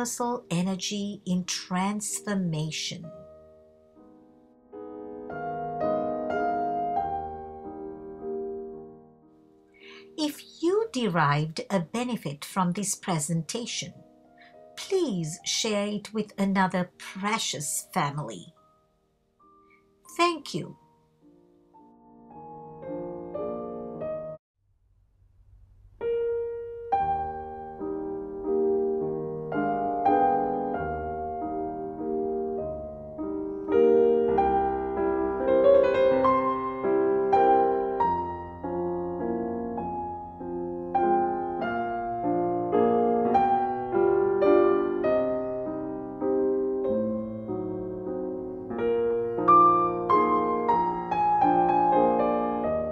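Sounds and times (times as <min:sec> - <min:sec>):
slow gentle piano music: 0:00.0 - 0:11.6, 0:13.5 - 0:24.4, 0:25.9 - 0:52.9.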